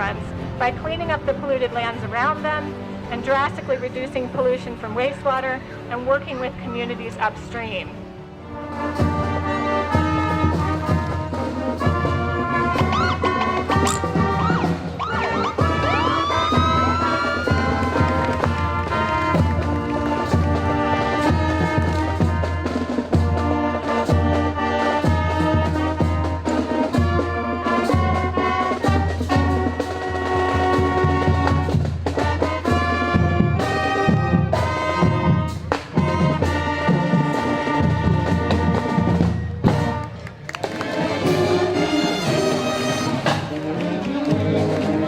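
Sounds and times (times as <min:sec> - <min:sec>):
brass instruments sustained notes: 0:00.0 - 0:45.0.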